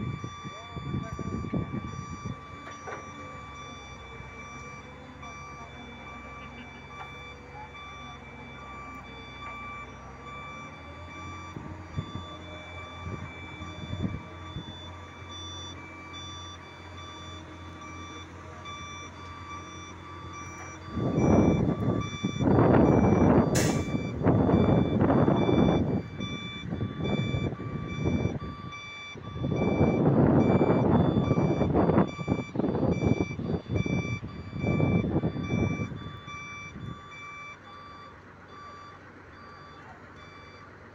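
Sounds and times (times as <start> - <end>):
crane engine running: 0.0 - 40.9
crane warning beeper: 0.0 - 40.9.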